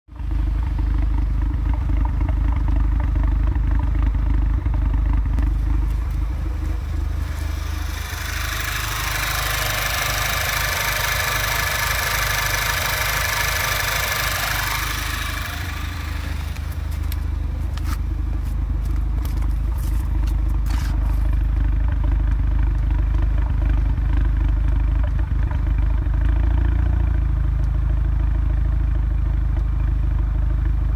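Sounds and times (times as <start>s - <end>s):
car engine idling roughly: 0.1s - 30.9s.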